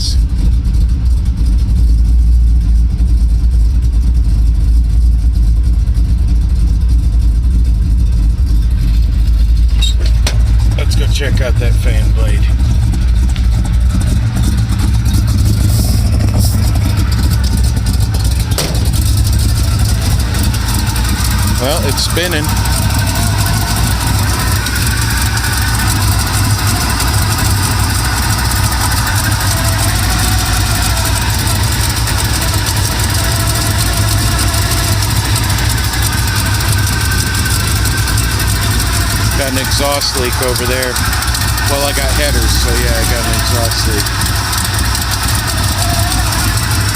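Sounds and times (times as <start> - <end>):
engine rumbling: 0.0 - 46.9
fan spinning: 8.4 - 46.9.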